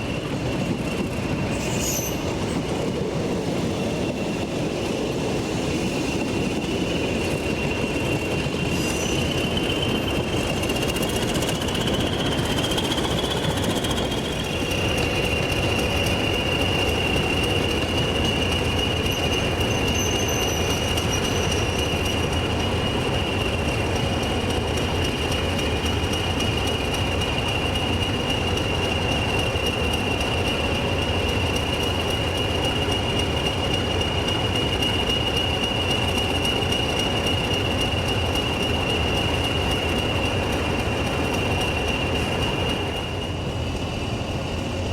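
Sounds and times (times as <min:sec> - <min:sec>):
train rumbling on rails: 0:00.0 - 0:44.9
train wheel squeal: 0:00.0 - 0:44.9.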